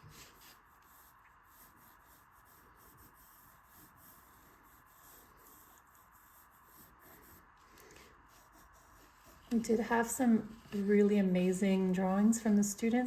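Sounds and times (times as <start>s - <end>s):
pencil scratching on paper: 0.0s - 13.0s.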